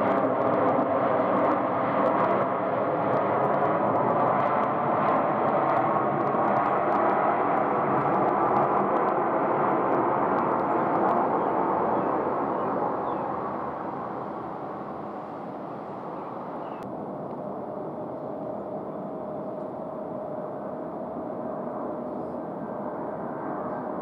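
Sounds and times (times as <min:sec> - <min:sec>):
distant jet engine roar: 0:00.0 - 0:24.0
faint steady whine: 0:03.4 - 0:24.0.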